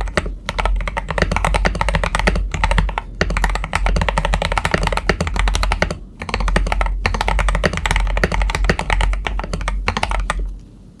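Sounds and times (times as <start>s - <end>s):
mechanical keyboard typing: 0.0s - 10.6s.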